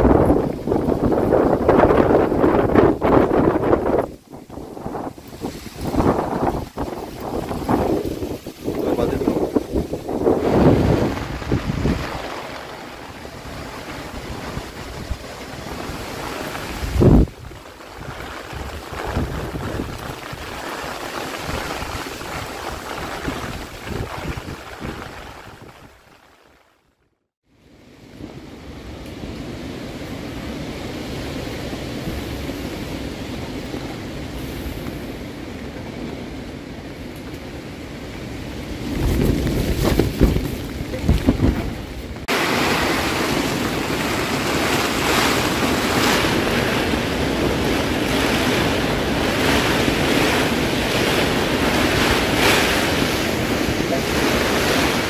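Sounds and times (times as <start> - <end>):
wind buffeting microphone: 0.0 - 26.4, 28.0 - 55.0
tarp flapping: 0.0 - 27.0, 37.4 - 55.0
gusting storm wind: 0.0 - 55.0.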